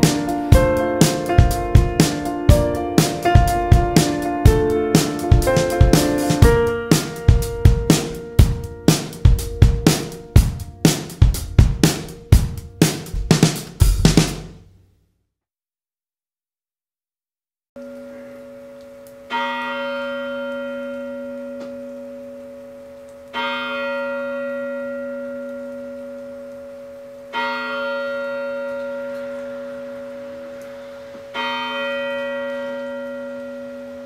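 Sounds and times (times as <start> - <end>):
large bell tolling: 0.0 - 13.7, 17.8 - 34.0.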